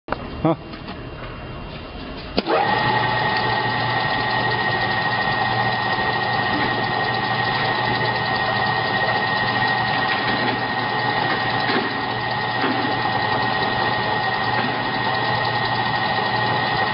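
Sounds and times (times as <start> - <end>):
brake lathe humming and whining: 2.0 - 16.9.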